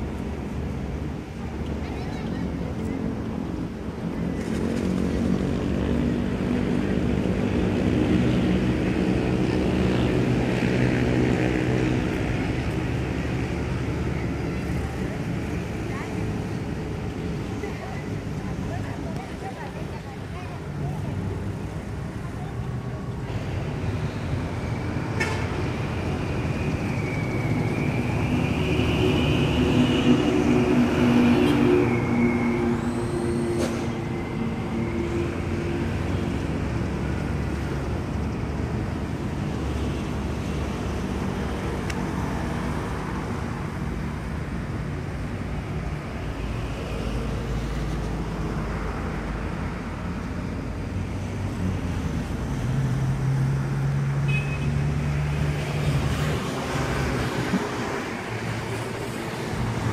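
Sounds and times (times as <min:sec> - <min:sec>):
road traffic noise: 0:00.0 - 0:59.9.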